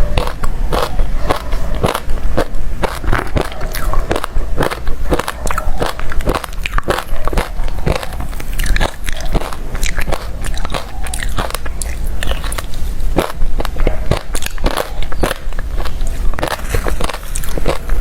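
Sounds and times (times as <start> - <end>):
chewing crunchy ice: 0.0 - 18.0.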